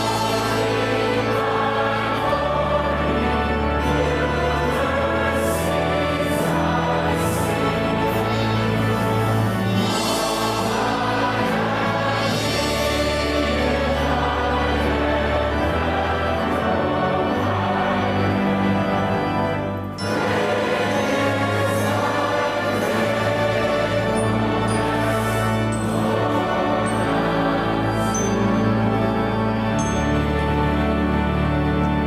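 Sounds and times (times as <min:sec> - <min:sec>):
choir singing: 0:00.0 - 0:32.0
instrumental accompaniment: 0:00.0 - 0:32.0.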